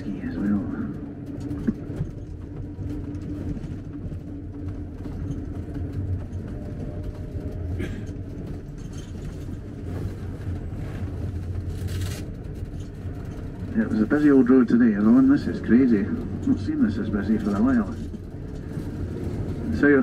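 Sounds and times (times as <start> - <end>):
minibus engine and tyres rumbling: 0.0 - 20.0.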